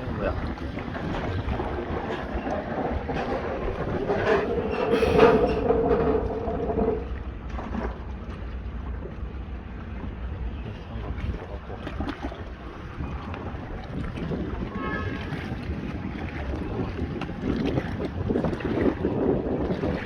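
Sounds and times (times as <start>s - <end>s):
wind buffeting the microphone: 0.0s - 20.0s.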